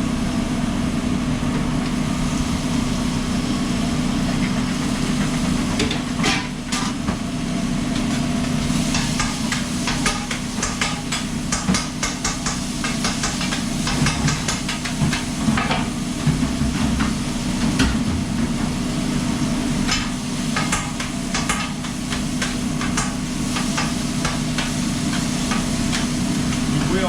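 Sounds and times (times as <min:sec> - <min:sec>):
low machine hum: 0:00.0 - 0:27.0
frying sizzle: 0:00.1 - 0:27.0.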